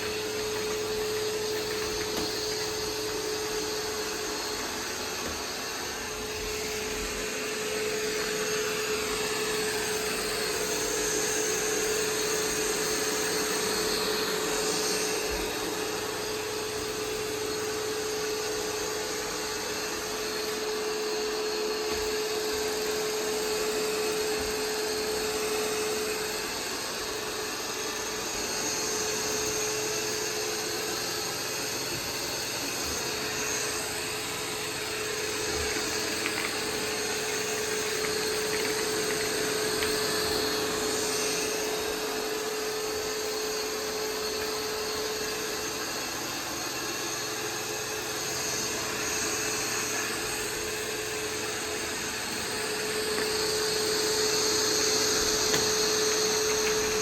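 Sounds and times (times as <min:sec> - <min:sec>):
robot vacuum motor whirring: 0:00.0 - 0:57.0.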